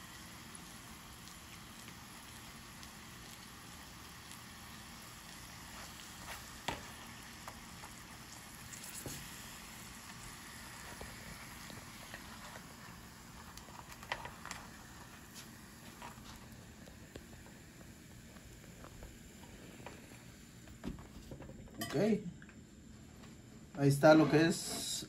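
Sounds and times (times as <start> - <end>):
tortilla sizzling in oil: 0.0 - 21.1.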